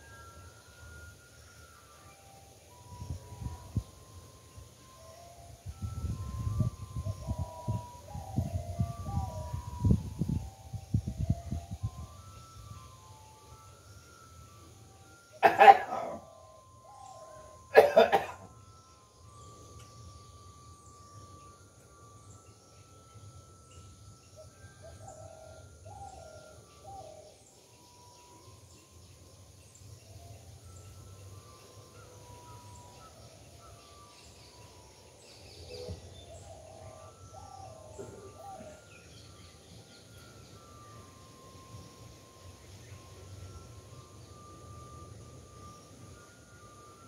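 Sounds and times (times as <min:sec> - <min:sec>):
birds chirping: 0:00.0 - 0:47.0
lower bird calls: 0:00.0 - 0:47.0
whistled bird notes: 0:00.0 - 0:47.0.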